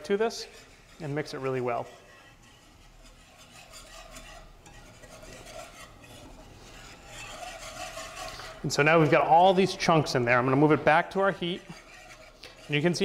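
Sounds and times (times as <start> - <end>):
whisk scraping in pan: 0.0 - 13.0.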